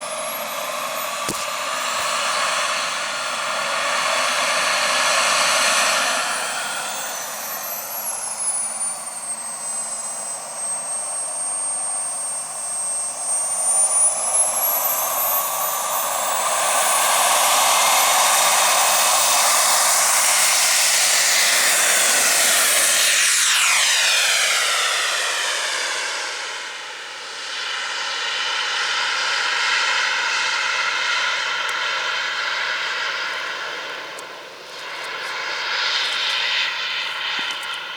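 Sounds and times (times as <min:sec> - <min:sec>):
model jet turbine whining: 0:00.0 - 0:37.9.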